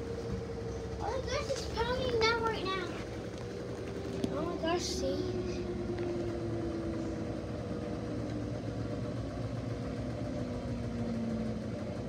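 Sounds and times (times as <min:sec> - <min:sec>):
washing machine running: 0:00.0 - 0:12.0.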